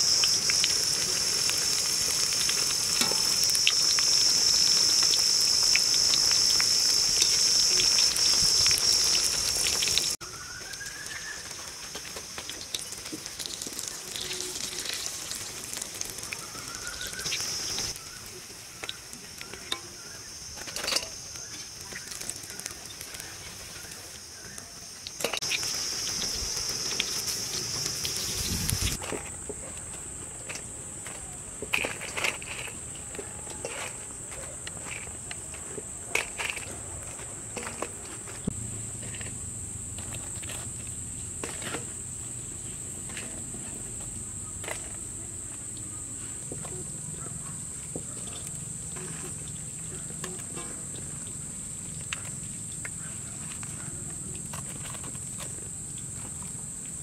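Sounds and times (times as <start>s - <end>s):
food deep-frying in hot oil: 0.0s - 53.5s.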